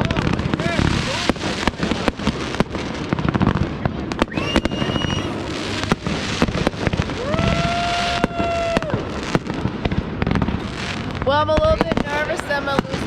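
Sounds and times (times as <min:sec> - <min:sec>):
firework whistling: 0:00.0 - 0:11.1
firecrackers cracking and banging: 0:00.0 - 0:13.0.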